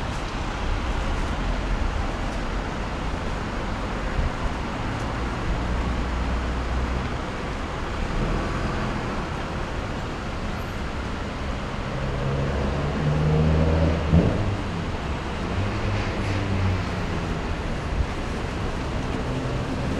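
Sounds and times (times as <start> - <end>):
road noise: 0.0 - 19.9
vehicle engines humming: 0.0 - 19.9.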